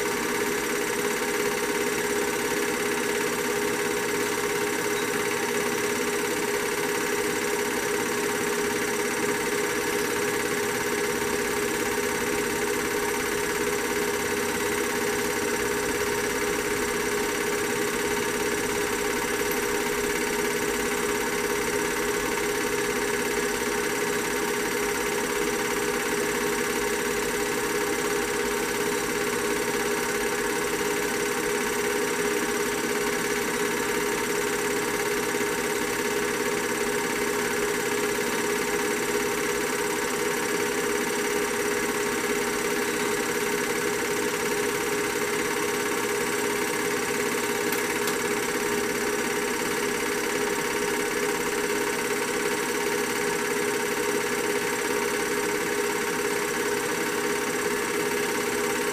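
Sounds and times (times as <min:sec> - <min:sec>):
film projector whirring: 0:00.0 - 0:58.9.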